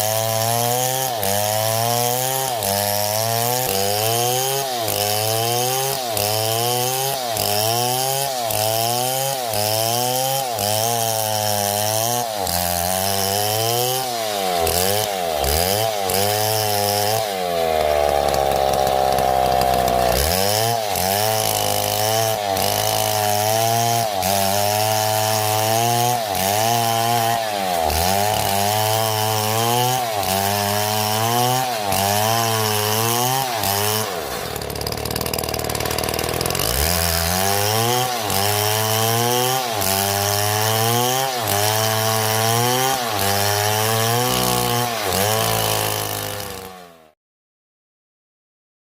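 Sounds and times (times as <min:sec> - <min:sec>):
chainsaw revving while cutting: 0:00.0 - 0:47.2.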